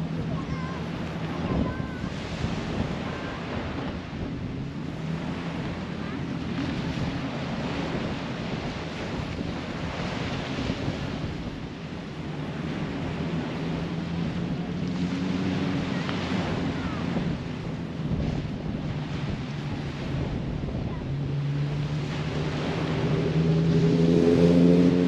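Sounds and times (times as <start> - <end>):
small waves washing onto sand: 0.0 - 25.0
wind buffeting microphone: 0.0 - 25.0.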